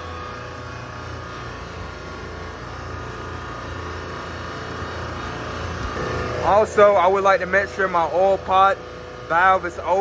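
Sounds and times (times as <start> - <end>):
compressor hum: 0.0 - 10.0.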